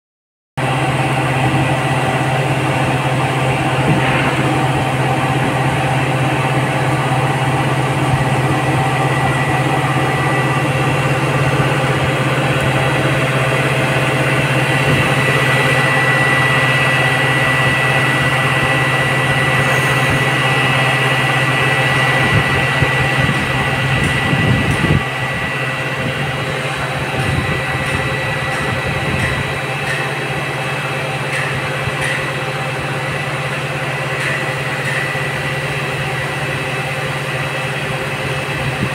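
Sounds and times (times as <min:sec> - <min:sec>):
crane diesel engine running: 0:00.6 - 0:38.9.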